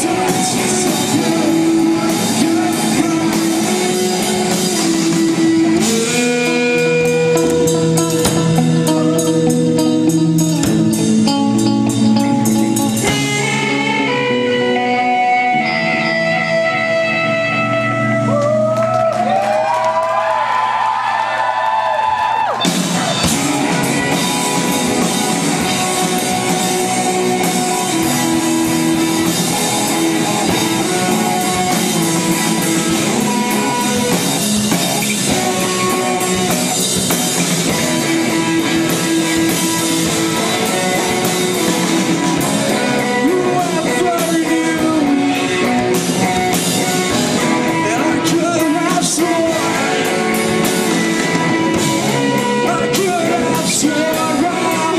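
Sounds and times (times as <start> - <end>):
bending electric guitar note: 0.0 - 19.1, 23.1 - 54.9
rock band with singing: 0.0 - 54.9.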